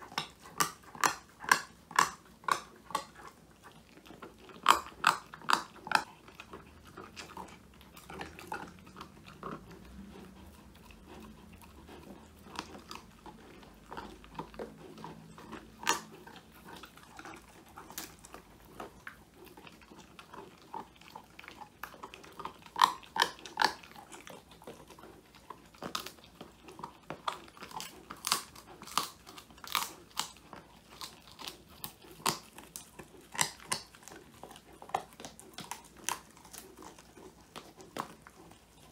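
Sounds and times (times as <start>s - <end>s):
dog chewing crunchy treat: 0.0s - 38.9s.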